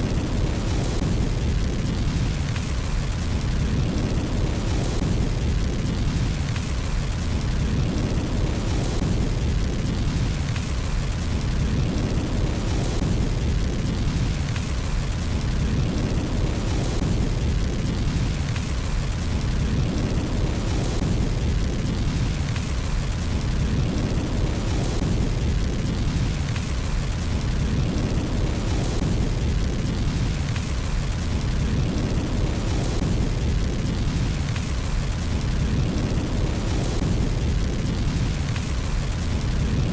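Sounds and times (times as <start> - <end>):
fire burning in fireplace: 0.0 - 39.9.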